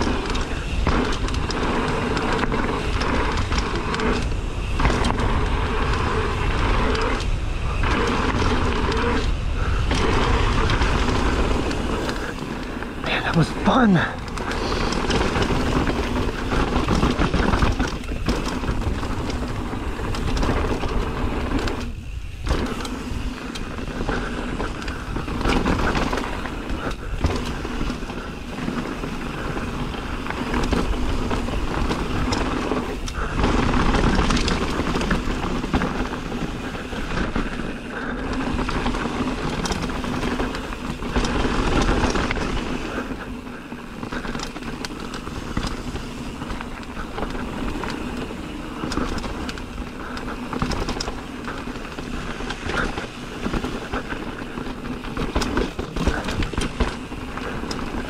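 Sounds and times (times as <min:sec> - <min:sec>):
bike tyres rumbling over trail: 0:00.0 - 0:58.0.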